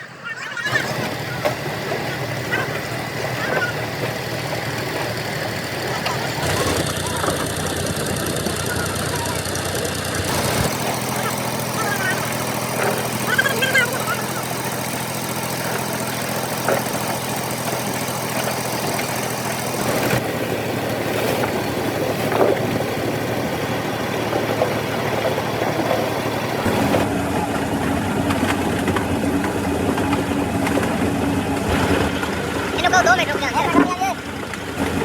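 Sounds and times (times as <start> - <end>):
machinery running: 0.0 - 35.0.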